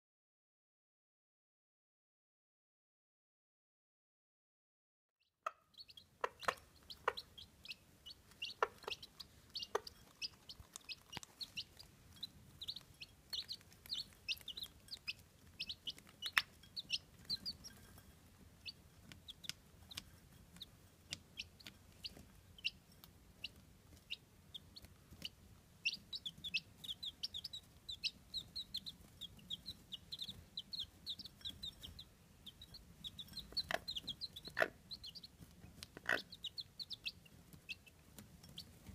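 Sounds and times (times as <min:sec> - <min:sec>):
chicks peeping: 0:05.4 - 0:38.9.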